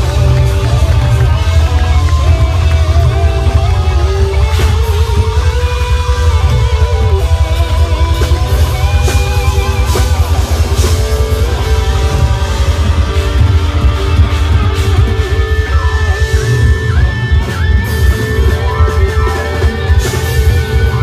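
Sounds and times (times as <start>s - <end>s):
bending lead guitar melody: 0.0s - 21.0s
drum kit with cymbal crashes: 0.0s - 21.0s
electric guitars: 0.0s - 21.0s
heavy bass: 0.0s - 21.0s.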